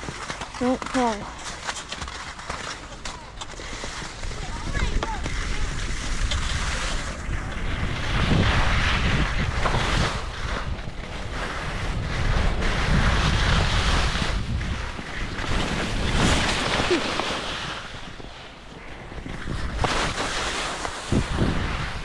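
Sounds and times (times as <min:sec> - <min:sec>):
skis scraping over snow: 0:00.0 - 0:22.0
wind buffeting microphone: 0:03.8 - 0:22.0.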